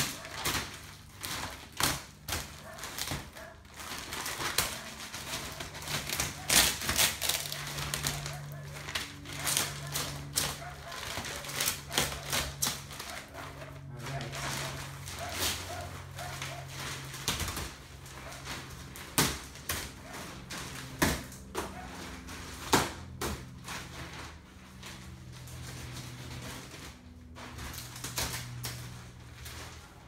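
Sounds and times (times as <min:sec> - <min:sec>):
plastic sheet crinkling: 0:00.0 - 0:30.0.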